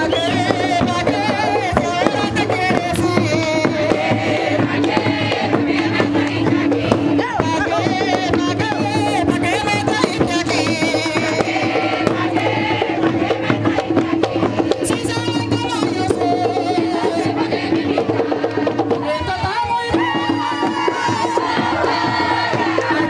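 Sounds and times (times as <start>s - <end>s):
quick drumming: 0.0s - 23.0s.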